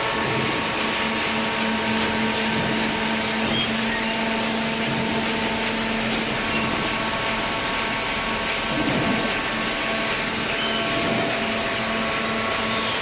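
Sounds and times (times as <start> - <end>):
hydraulic machine whirring: 0.0 - 13.0.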